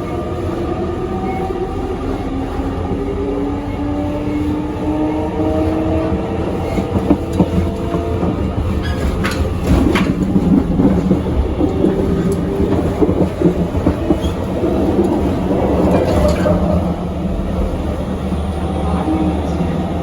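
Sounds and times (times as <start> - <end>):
electric train rumbling on rails: 0.0 - 20.0.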